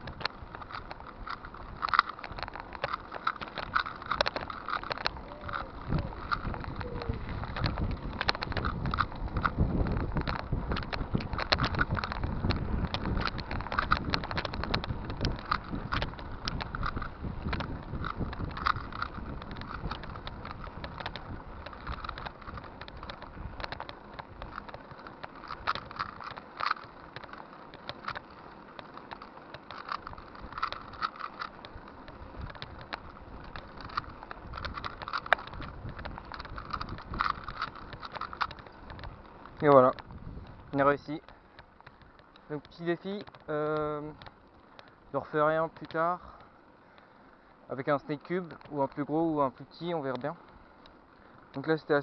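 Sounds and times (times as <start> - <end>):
bicycle clicks and rattles: 0.0 - 52.0.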